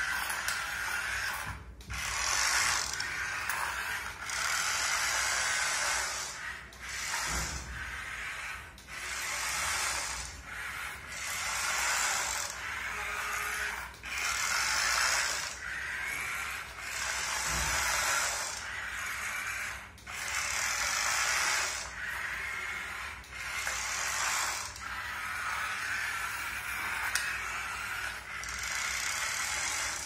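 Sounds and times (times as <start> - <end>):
toy electric motor whirring: 0.0 - 30.0.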